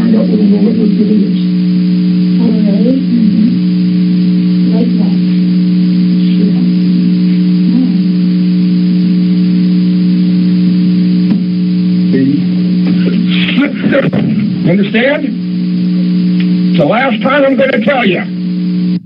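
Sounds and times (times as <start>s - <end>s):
loud electrical hum: 0.0s - 19.0s
muffled voices: 0.0s - 19.0s.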